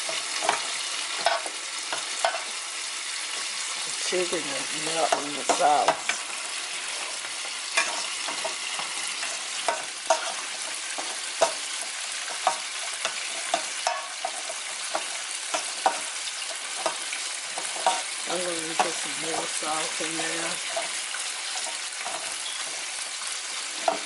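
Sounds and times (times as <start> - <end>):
oil sizzling with frying chicken: 0.0 - 24.0.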